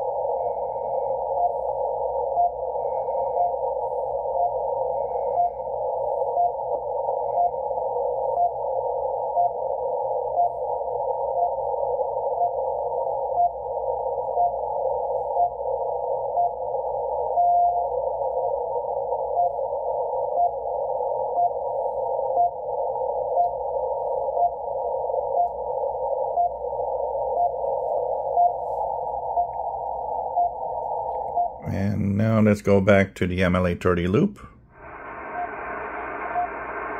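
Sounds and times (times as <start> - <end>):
static hiss: 0.0 - 36.9.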